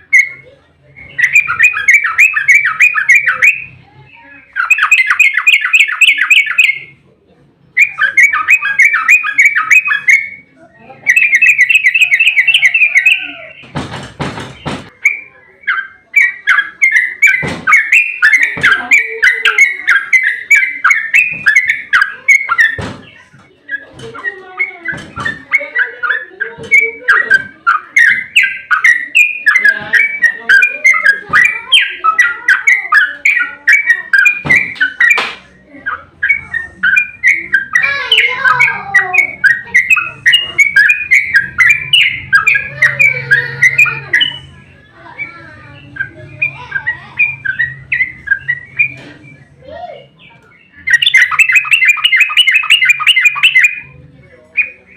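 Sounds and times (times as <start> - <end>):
bird trilling song: 0.0 - 7.0, 7.6 - 54.9.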